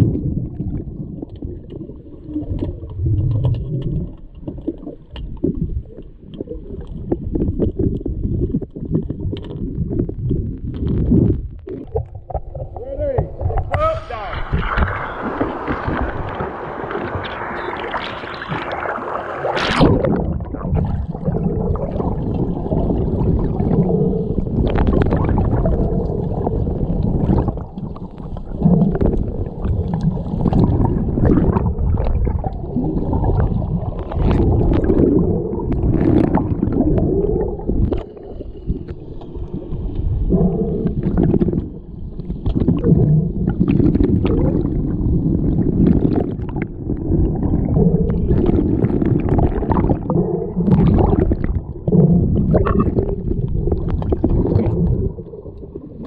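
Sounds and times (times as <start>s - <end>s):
muffled underwater rumbling: 0.0s - 56.0s.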